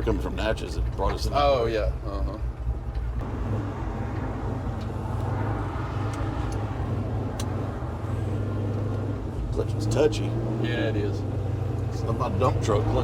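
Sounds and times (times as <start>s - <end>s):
engine drone inside cab: 0.0s - 13.0s
road noise: 0.0s - 13.0s.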